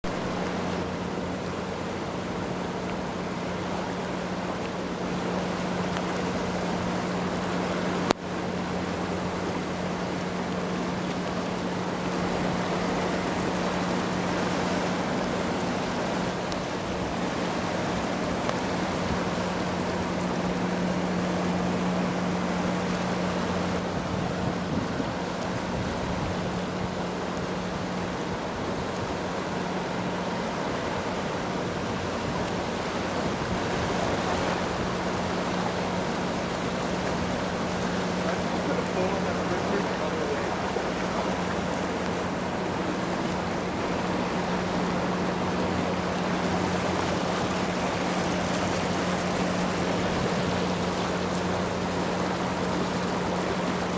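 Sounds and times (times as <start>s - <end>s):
constant low hum: 0.0s - 53.9s
floodwater rushing: 0.0s - 53.9s.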